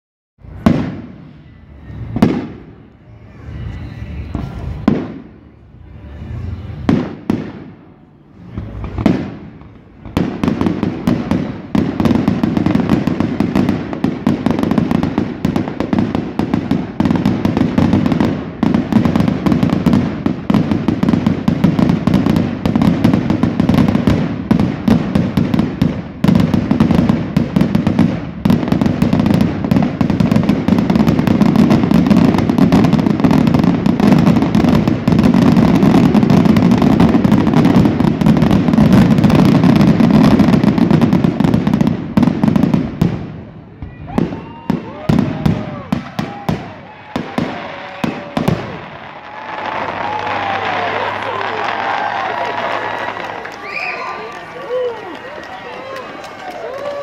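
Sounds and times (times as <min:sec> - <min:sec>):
fireworks booming and crackling: 0:00.4 - 0:57.0.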